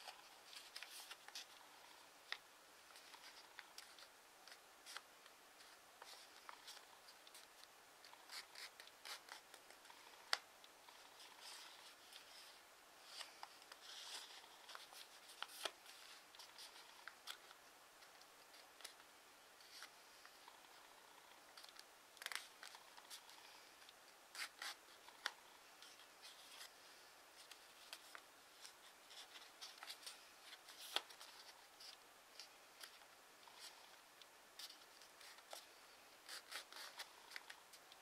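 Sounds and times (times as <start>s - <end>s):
paper being folded and creased: 0.0s - 19.0s, 19.6s - 26.8s, 27.4s - 33.9s, 34.6s - 38.0s.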